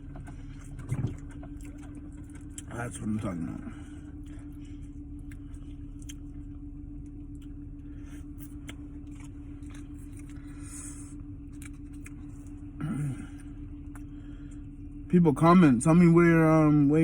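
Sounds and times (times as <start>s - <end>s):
person chewing crispy food: 0.0s - 14.8s
car cabin engine hum: 0.0s - 17.0s.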